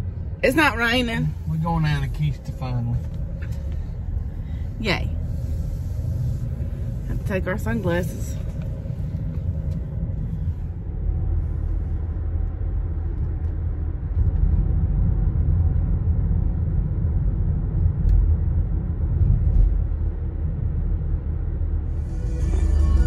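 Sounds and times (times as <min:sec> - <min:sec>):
car cabin road and engine rumble: 0:00.0 - 0:23.0.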